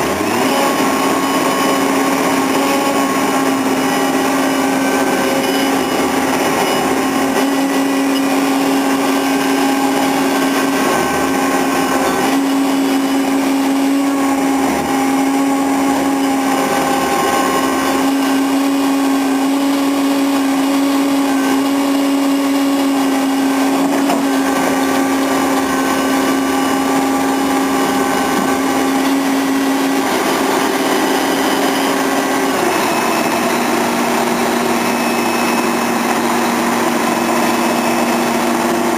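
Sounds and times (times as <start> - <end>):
droning engine hum: 0.0 - 38.9.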